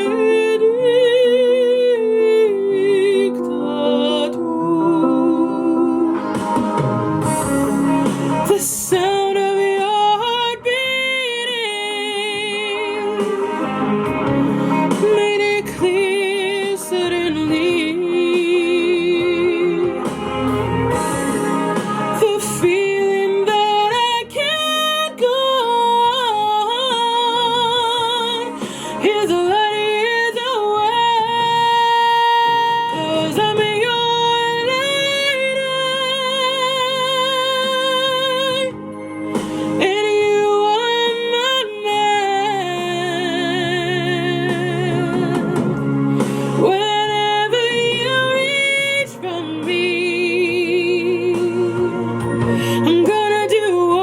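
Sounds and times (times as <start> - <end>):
woman singing with vibrato: 0.0 - 6.6, 7.3 - 54.0
sustained backing accompaniment: 0.0 - 54.0.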